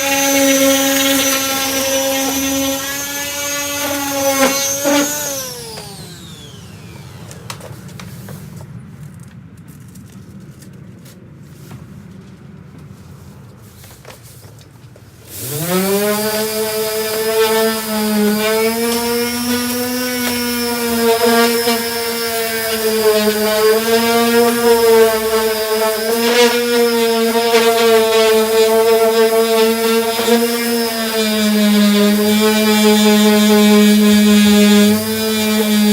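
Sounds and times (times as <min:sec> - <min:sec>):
electric sander motor whine: 0:00.0 - 0:08.3, 0:15.3 - 0:35.9.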